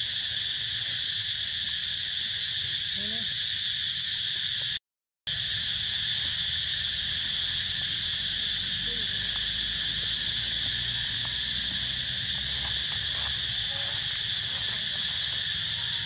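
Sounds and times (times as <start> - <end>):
insect chorus drone: 0.0 - 16.0.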